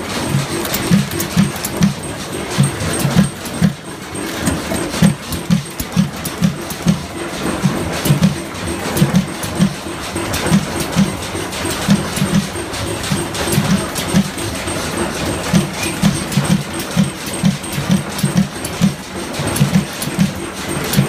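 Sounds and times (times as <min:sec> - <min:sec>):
stationary engines running: 0:00.0 - 0:21.0.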